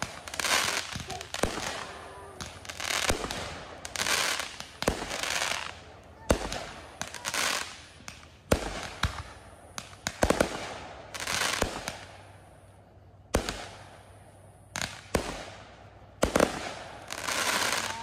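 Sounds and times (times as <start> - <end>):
fireworks bangs: 0.0 - 12.7, 13.3 - 18.0
fireworks hissing rushes: 0.0 - 18.0.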